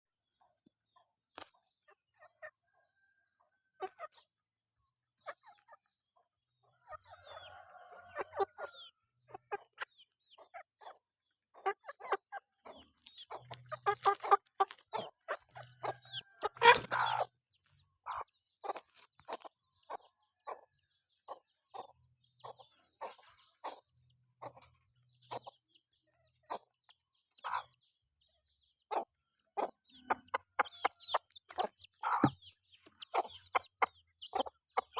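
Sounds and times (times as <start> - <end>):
chickens clucking: 0.2 - 34.9.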